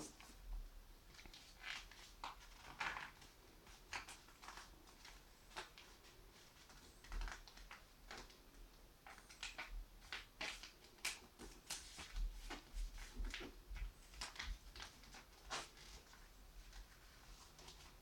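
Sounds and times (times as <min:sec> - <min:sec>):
paper rustling and creasing: 0:01.1 - 0:18.0.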